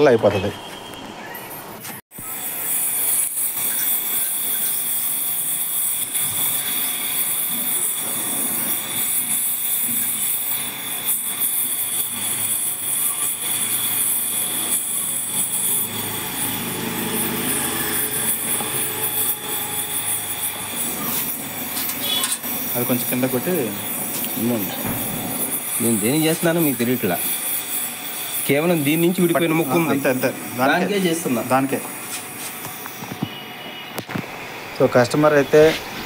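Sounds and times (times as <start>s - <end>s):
welding torch flame hissing: 1.8s - 36.0s.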